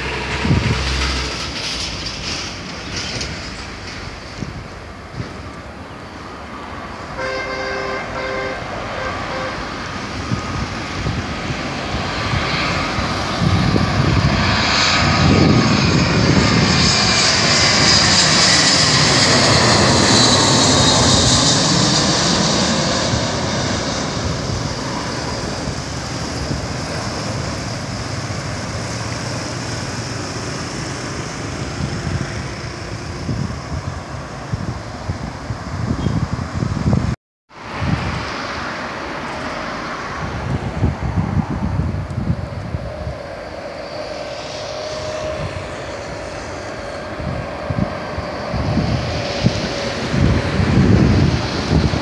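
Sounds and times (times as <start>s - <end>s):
jet airliner flying overhead: 0.0s - 52.0s.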